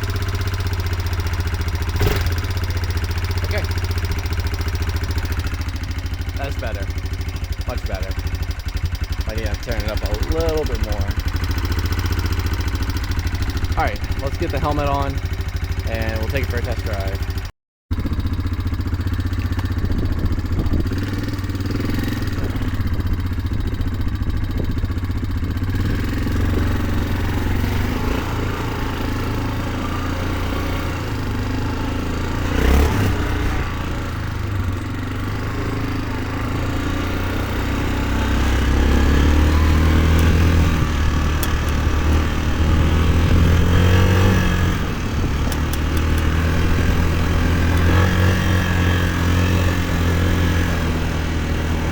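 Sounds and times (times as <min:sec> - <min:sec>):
engine running and revving: 0:00.0 - 0:51.9.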